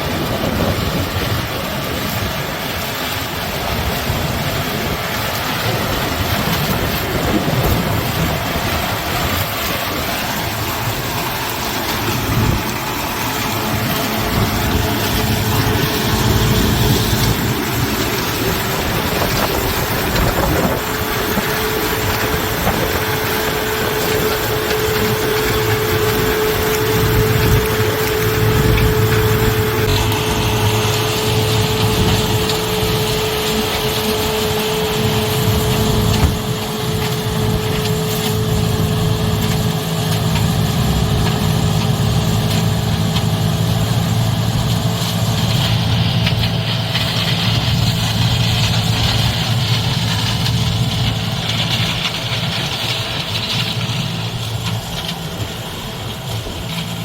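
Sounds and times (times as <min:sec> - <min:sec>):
combine harvester drone: 0:00.0 - 0:57.0.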